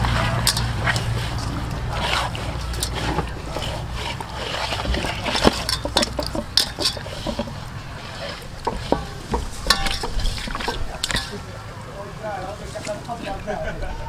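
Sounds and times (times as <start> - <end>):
hands squelching raw chicken: 0.0 - 11.5.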